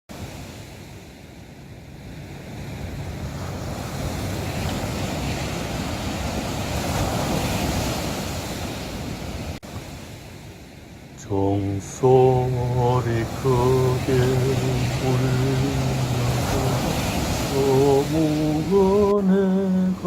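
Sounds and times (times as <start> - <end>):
ocean surf rushing: 0.1 - 20.0.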